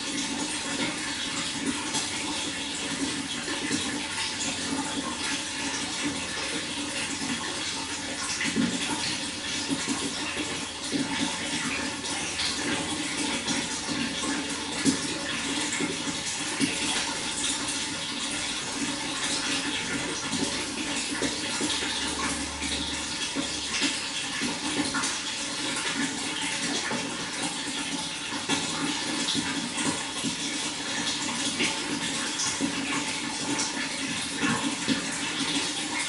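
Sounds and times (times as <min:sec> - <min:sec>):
running water pouring: 0:00.0 - 0:36.0.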